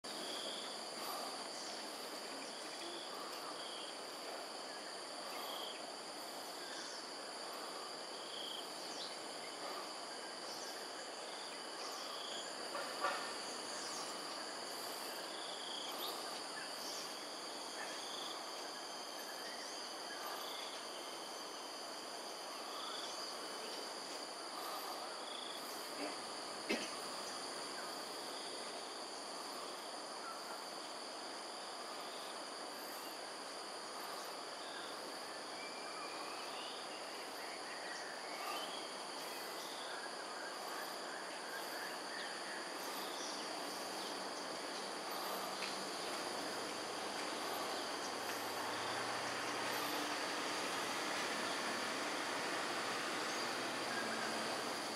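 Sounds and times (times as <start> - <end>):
crickets droning: 0.0 - 54.9
short repeating insect call: 0.1 - 54.9.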